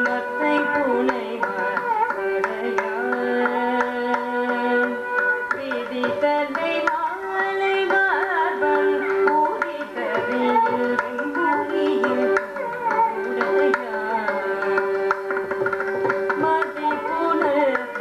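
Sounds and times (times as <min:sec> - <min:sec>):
violin: 0:00.0 - 0:18.0
woman singing: 0:00.0 - 0:18.0.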